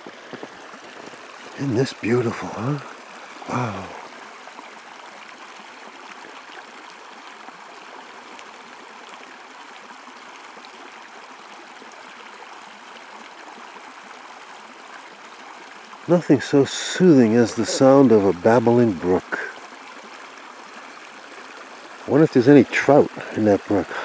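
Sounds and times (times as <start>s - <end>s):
creek babbling over rocks: 0.0s - 24.0s.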